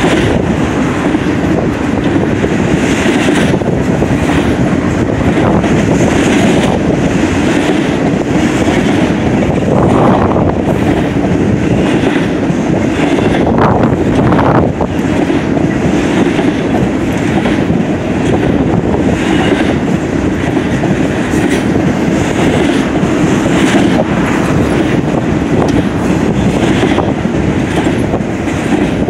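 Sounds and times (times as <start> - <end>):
train wheels clacking: 0.0 - 29.0
train wheels rumbling on rail: 0.0 - 29.0.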